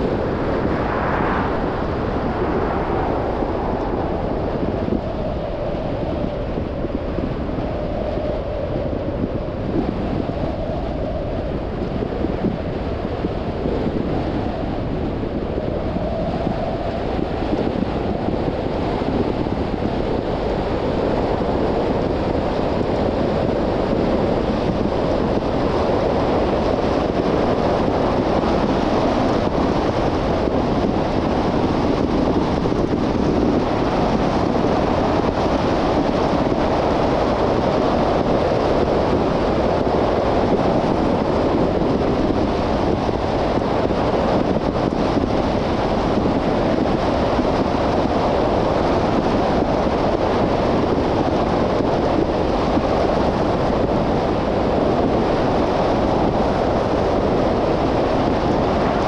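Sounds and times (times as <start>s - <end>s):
wind rush: 0.0s - 59.0s.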